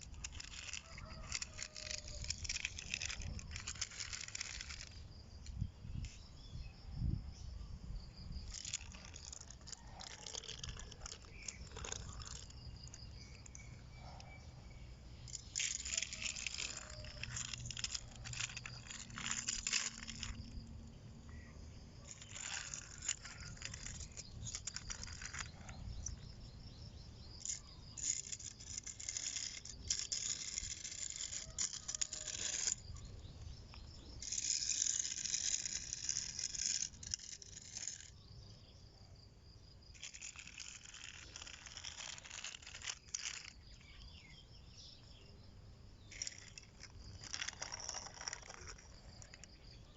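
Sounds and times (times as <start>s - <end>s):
metal toy vehicles rattling and scraping: 0.0s - 5.6s, 8.3s - 38.4s, 39.8s - 45.3s, 46.0s - 49.9s.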